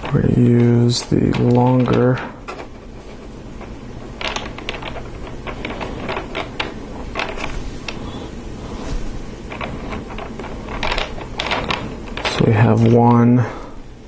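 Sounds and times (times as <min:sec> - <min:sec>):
plastic parts clicking and rattling: 0:00.0 - 0:08.0, 0:09.5 - 0:13.0.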